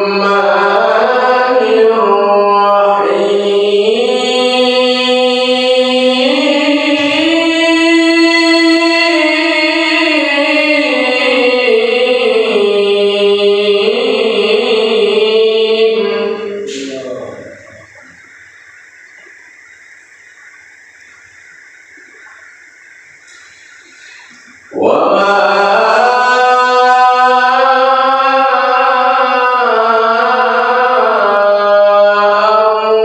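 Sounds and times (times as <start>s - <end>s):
man reciting melodically: 0.0s - 18.2s, 24.0s - 33.0s.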